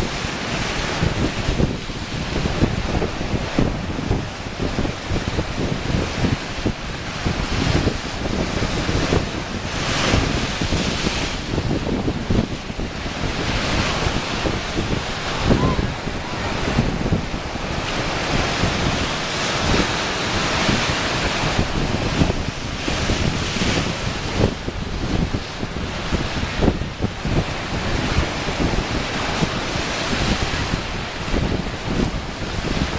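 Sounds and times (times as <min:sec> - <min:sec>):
ocean waves washing against rocks: 0:00.0 - 0:32.9
wind buffeting microphone: 0:00.0 - 0:32.9.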